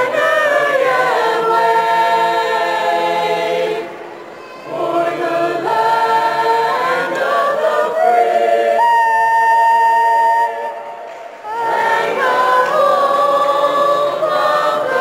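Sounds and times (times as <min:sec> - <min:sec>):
choir singing a cappella: 0:00.0 - 0:15.0.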